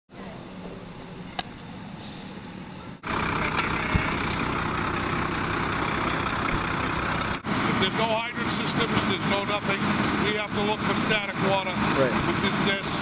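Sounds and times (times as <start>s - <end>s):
fire engine running: 0.4s - 13.0s.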